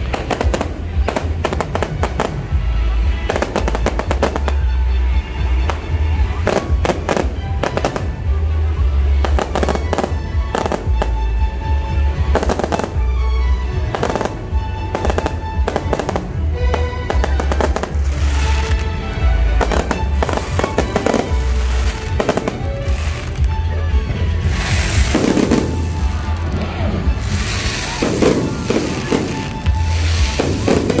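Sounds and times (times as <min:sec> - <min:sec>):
fireworks bangs and crackles: 0:00.0 - 0:13.1, 0:13.8 - 0:31.0
loud music with heavy bass: 0:00.0 - 0:31.0.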